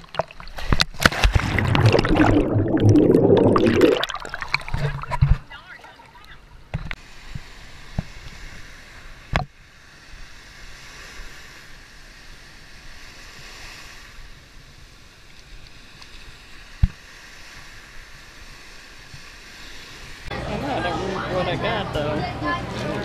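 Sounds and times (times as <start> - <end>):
waves washing on beach: 0.6 - 21.0.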